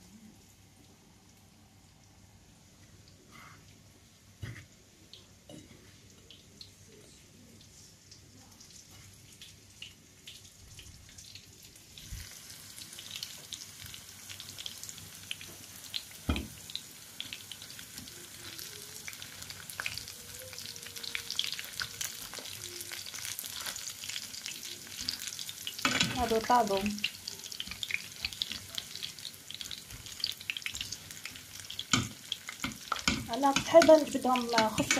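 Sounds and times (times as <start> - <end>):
corn dogs sizzling in oil: 0.0 - 34.9.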